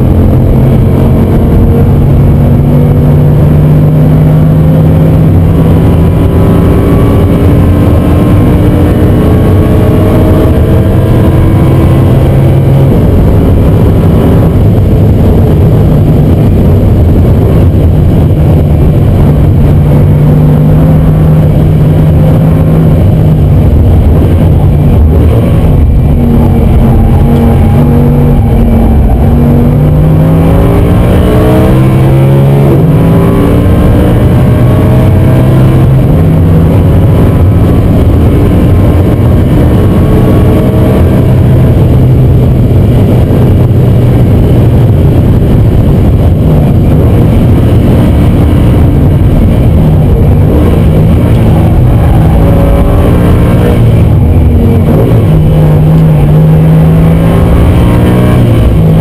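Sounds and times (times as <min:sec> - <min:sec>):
car engine accelerating: 0:00.0 - 0:59.0
road and tyre noise: 0:00.0 - 0:59.0.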